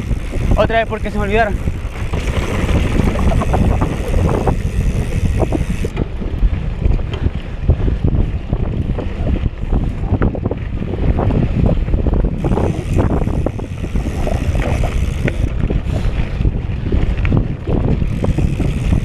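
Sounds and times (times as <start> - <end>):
bike knocks and rattles: 0.0 - 19.0
bike tyres rumbling on dirt: 0.0 - 19.0
wind buffeting microphone: 0.0 - 19.0.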